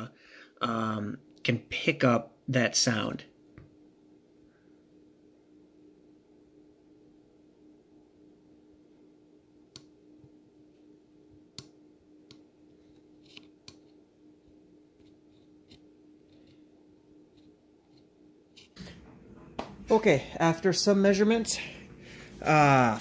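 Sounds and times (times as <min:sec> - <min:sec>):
high-pitched inductor whine: 0:00.0 - 0:18.9.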